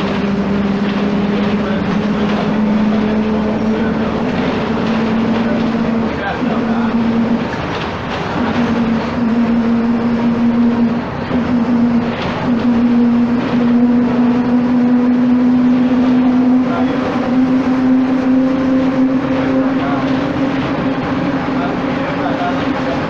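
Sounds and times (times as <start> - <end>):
bus engine whine: 0.0 - 23.0.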